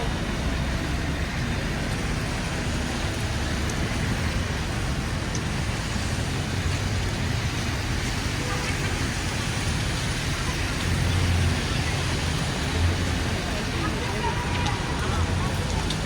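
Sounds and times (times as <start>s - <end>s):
passing vehicles rumbling: 0.0s - 16.0s.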